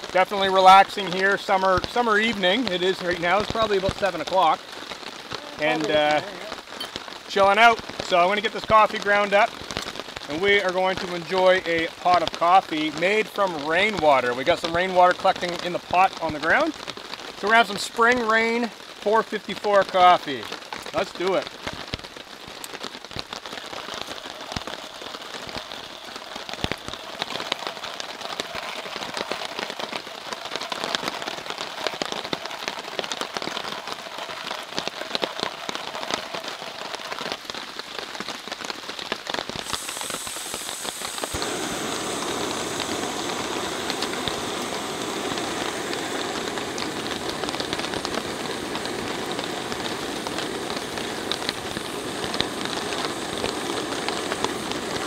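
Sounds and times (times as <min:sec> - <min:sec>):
camp stove burning hiss: 0:00.0 - 0:55.0
heavy rain on a tarp: 0:00.0 - 0:55.0.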